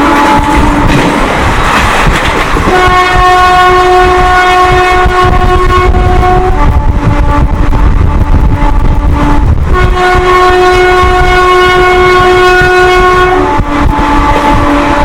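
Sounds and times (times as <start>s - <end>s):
locomotive two-tone horn: 0.0s - 1.0s, 2.6s - 15.0s
moving train rumble: 0.0s - 15.0s.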